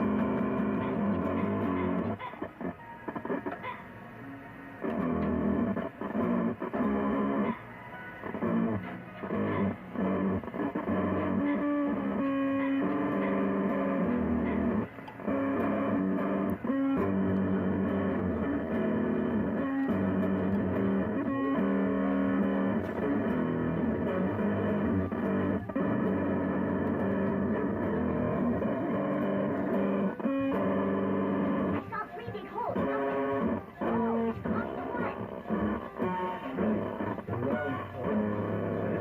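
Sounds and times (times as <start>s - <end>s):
distorted electric guitar music: 0.0s - 39.0s.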